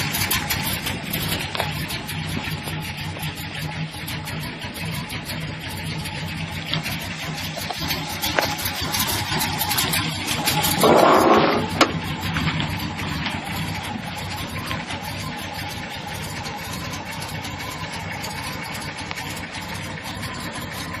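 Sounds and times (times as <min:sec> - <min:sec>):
truck engine idling roughly: 0:00.0 - 0:21.0.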